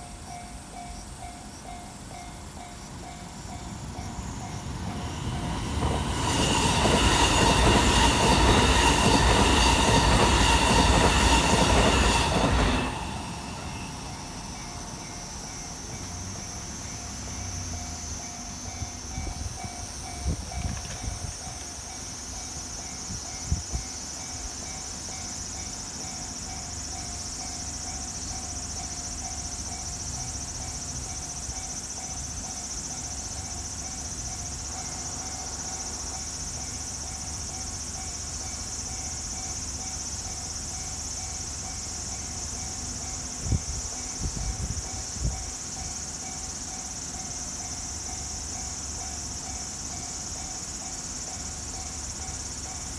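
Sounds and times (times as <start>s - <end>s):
crickets trilling: 0.0s - 52.9s
level-crossing warning bell: 0.0s - 52.9s.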